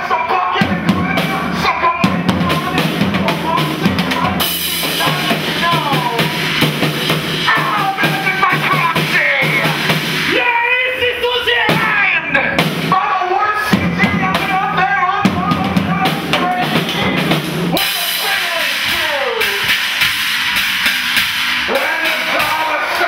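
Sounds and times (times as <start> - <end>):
drum kit beat: 0.0 - 23.0.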